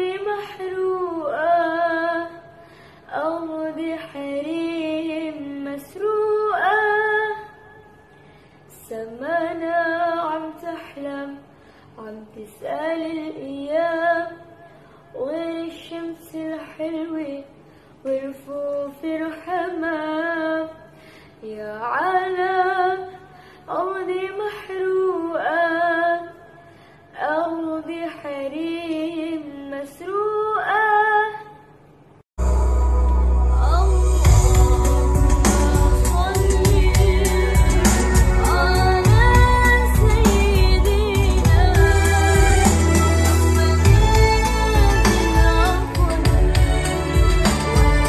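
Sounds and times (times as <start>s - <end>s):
woman singing devotional song: 0.0s - 31.8s, 33.4s - 48.0s.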